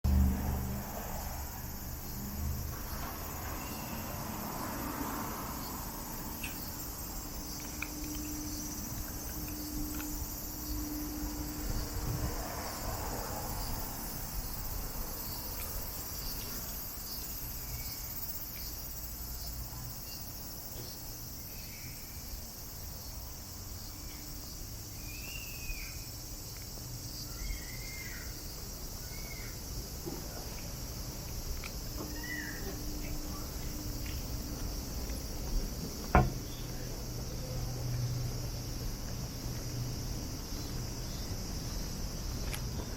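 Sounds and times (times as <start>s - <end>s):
low city rumble: 0.0s - 42.9s
cicadas droning: 0.1s - 42.9s.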